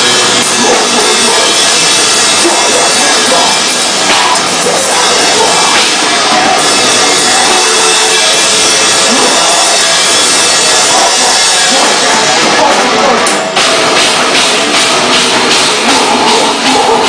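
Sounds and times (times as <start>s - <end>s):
drum hits: 0.0s - 17.0s
heavy rock band playing live: 0.0s - 17.0s.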